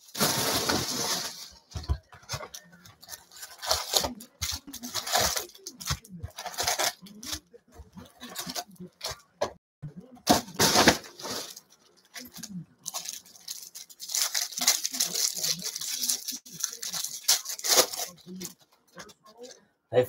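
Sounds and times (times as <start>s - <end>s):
foil packs rustling and crinkling: 0.0s - 9.3s, 10.3s - 18.6s.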